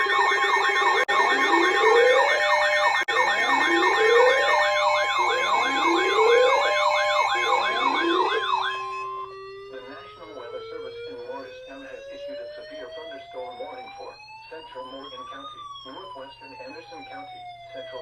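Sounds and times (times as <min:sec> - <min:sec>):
rising siren tone: 0:00.0 - 0:18.0
steady siren tones: 0:00.0 - 0:18.0
warbling electronic siren: 0:00.0 - 0:18.0.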